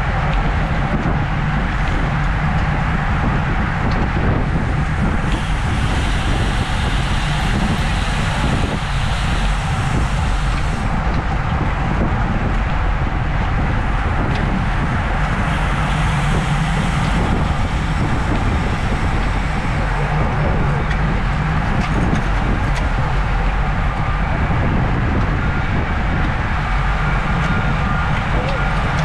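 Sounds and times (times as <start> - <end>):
wind on microphone: 0.0 - 29.0.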